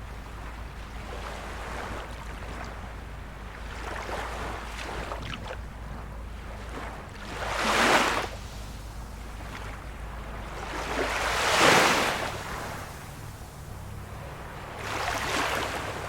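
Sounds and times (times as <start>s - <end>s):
small waves washing in: 0.0s - 16.0s.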